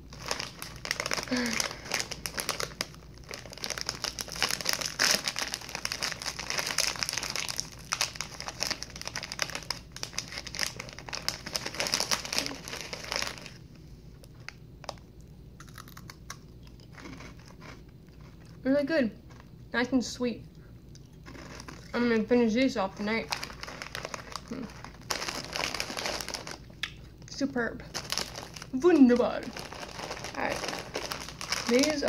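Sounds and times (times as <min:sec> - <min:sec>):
plastic snack bag crinkling: 0:00.0 - 0:13.6, 0:15.6 - 0:18.6, 0:21.0 - 0:32.0.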